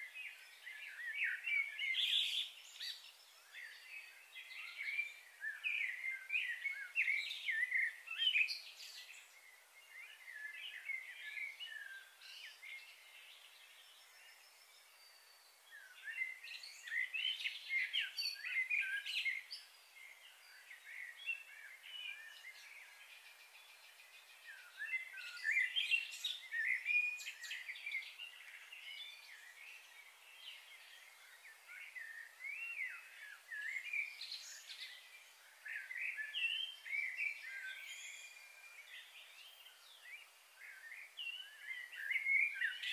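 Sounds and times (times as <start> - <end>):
songbirds chirping and twittering: 0.0 - 42.9.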